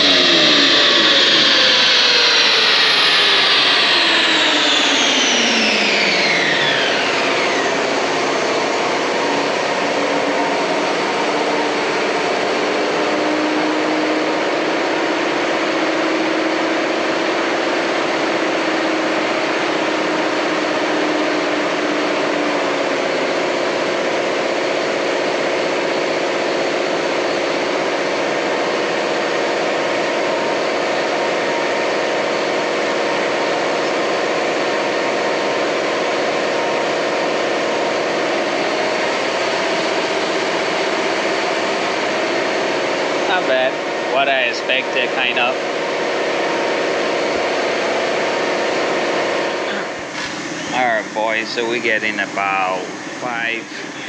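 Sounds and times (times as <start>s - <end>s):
machine rushing hum: 0.0s - 54.0s.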